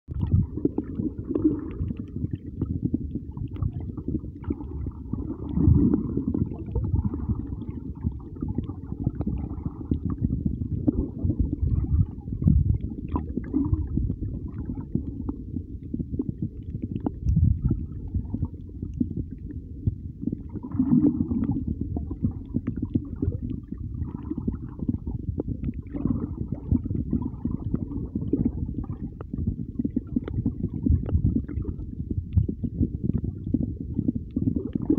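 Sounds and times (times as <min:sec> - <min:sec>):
underwater moving water rumbling: 0:00.1 - 0:34.9.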